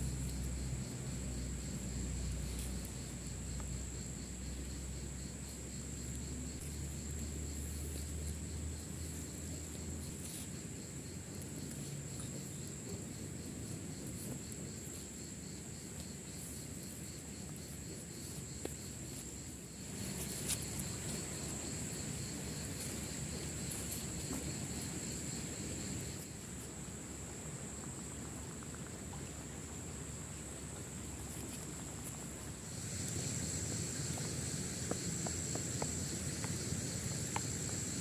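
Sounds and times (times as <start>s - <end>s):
insects droning: 0.0s - 38.0s
low outdoor rumble: 0.0s - 38.0s.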